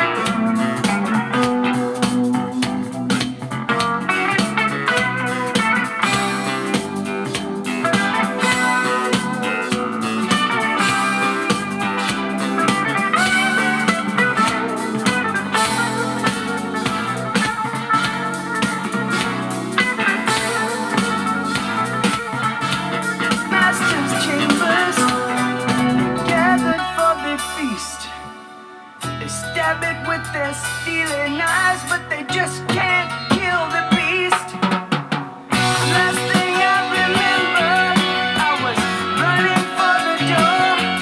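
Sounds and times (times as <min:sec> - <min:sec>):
light drums: 0:00.0 - 0:27.6, 0:31.1 - 0:41.0
guitar melody: 0:00.0 - 0:41.0.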